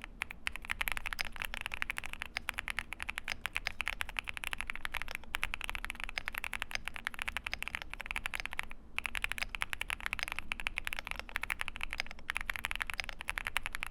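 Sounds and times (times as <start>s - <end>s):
mechanical keyboard typing: 0.0s - 13.9s.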